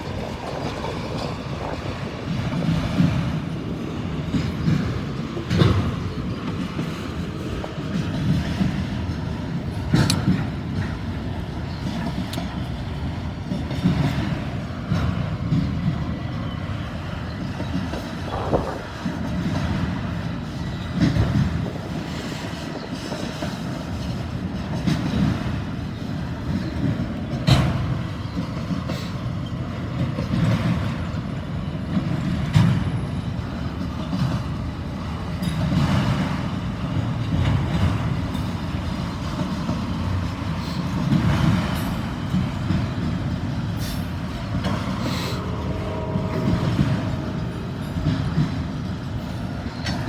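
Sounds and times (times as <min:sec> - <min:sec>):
train wheels rumbling on rails: 0:00.0 - 0:50.0
wheels clunking over rail joints: 0:00.0 - 0:50.0.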